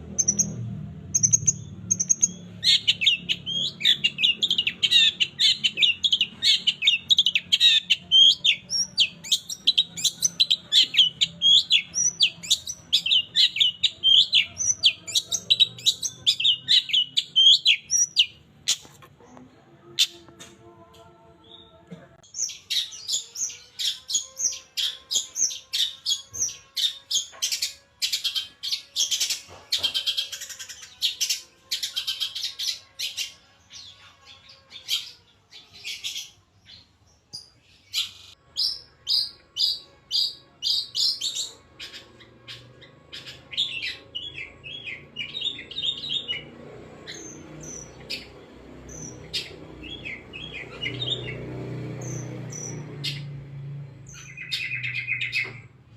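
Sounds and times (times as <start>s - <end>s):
caged bird singing sharp chirps: 0.0s - 19.0s, 22.2s - 55.7s.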